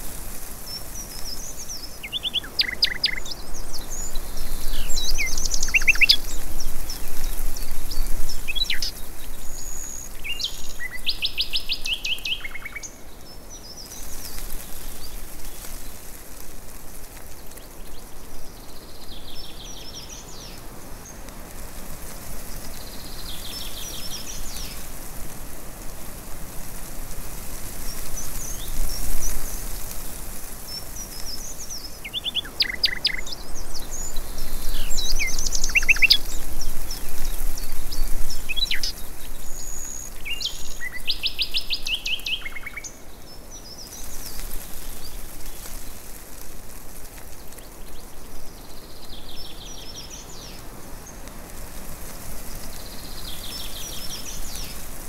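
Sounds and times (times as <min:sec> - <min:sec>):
small birds chirping: 0:00.0 - 0:25.3, 0:26.4 - 0:55.0
steady background hiss: 0:00.0 - 0:55.0.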